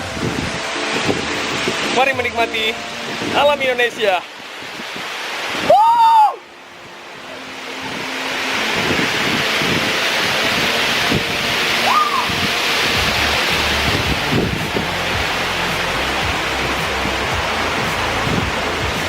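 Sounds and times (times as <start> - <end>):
high call rising and falling: 0.0 - 19.0
waterfall rushing: 0.0 - 19.0.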